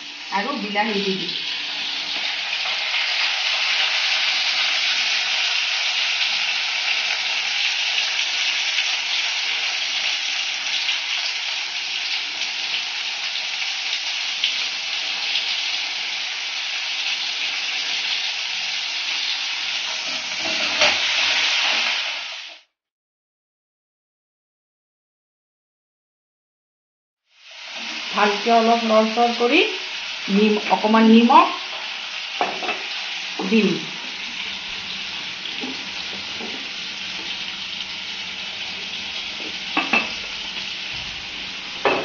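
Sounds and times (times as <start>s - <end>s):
vegetables sizzling in hot oil: 0.0s - 22.8s, 27.2s - 42.0s.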